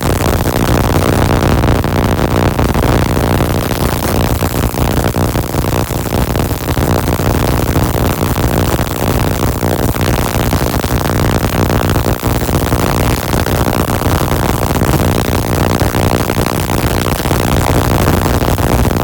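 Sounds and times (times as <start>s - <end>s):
spark gap buzzing crackle: 0.0s - 19.0s.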